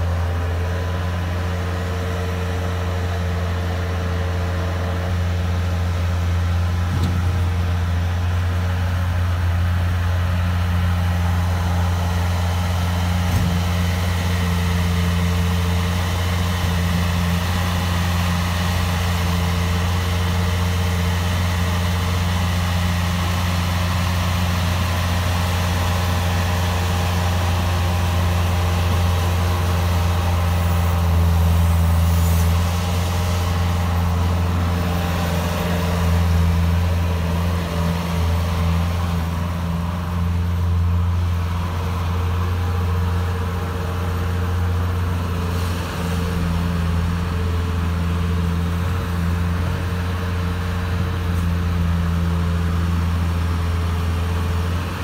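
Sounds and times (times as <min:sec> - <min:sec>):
loader diesel engine running: 0:00.0 - 0:55.0.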